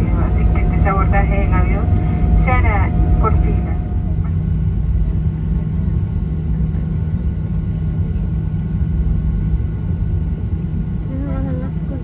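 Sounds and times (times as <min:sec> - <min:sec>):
airplane cabin rumble: 0:00.0 - 0:12.0
jet engine hum: 0:00.0 - 0:12.0.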